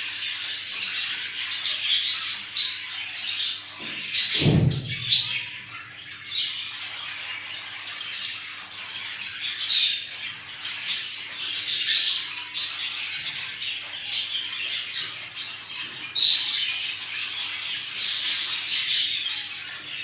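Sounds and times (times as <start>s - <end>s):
budgerigars chirping and squawking: 0.0s - 20.0s.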